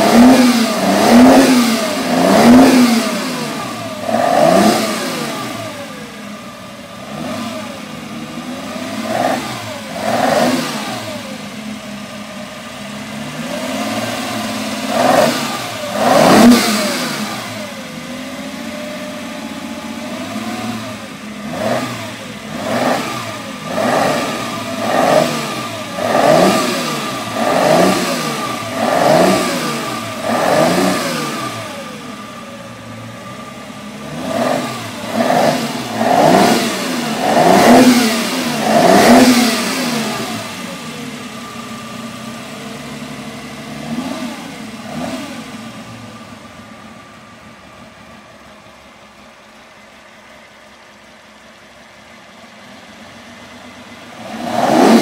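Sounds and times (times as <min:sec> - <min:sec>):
racing car engine revving: 0:00.0 - 0:50.8, 0:51.4 - 0:55.0.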